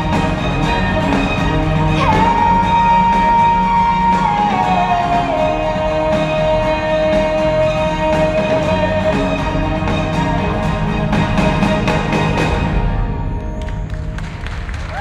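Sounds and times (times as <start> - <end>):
soundtrack music over speakers: 0.0 - 15.0.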